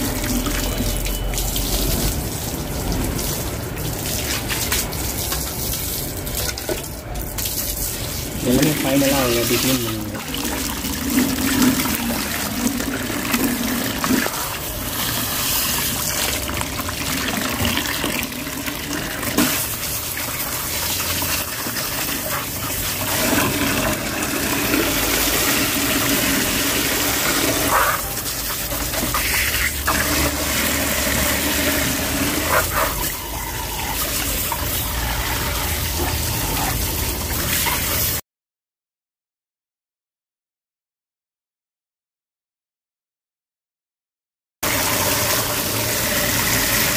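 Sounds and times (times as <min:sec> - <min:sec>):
hose water splashing into tub: 0:00.0 - 0:38.2, 0:44.6 - 0:46.9.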